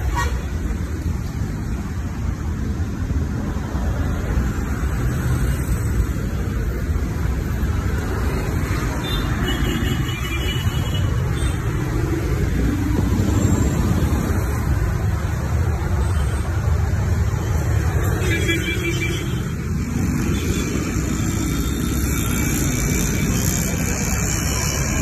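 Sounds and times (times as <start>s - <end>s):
busy road traffic: 0.0s - 25.0s.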